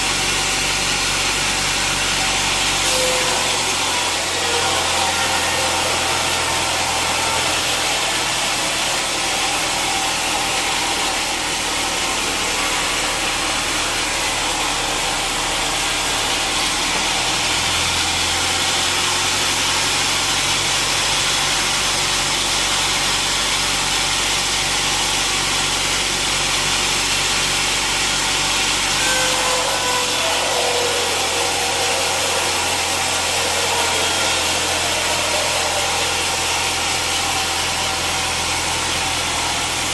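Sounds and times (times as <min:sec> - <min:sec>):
falling whine: 0:00.0 - 0:21.2, 0:27.9 - 0:39.9
sawmill saw cutting log: 0:00.0 - 0:39.9.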